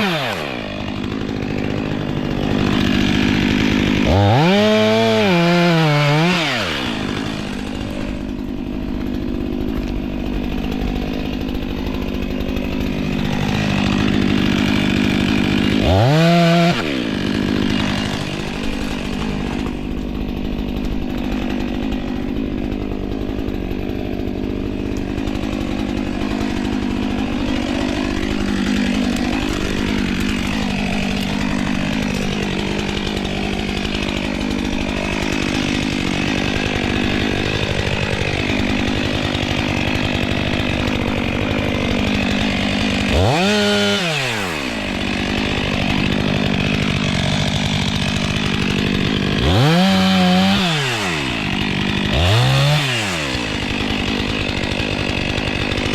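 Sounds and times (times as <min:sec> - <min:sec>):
chainsaw idling and revving: 0:00.0 - 0:55.9.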